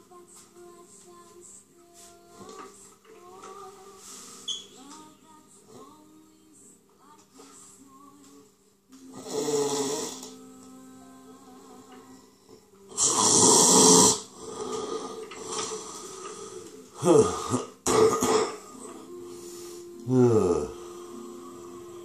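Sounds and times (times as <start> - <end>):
faint steady hum: 0.0 - 13.0, 14.3 - 22.0.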